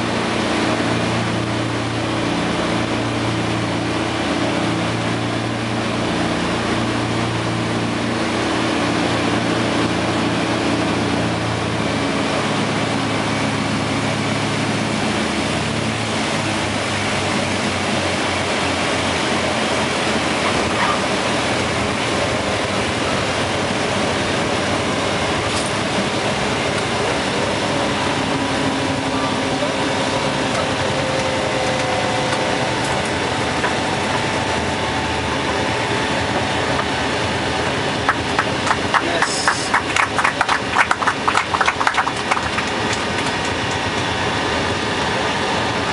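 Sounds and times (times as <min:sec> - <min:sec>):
propeller engines droning: 0:00.0 - 0:45.9
steady rushing noise: 0:00.0 - 0:45.9.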